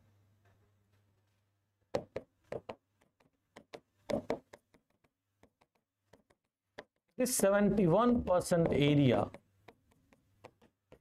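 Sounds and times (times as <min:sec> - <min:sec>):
stylus tapping on screen: 0:01.9 - 0:11.0.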